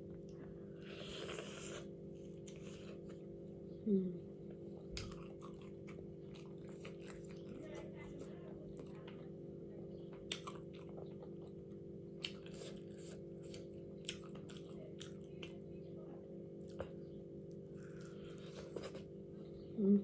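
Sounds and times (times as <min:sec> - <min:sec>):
steady low hum: 0:00.0 - 0:20.0
person chewing food: 0:00.2 - 0:03.6, 0:04.4 - 0:09.4, 0:10.0 - 0:15.7, 0:16.6 - 0:19.3.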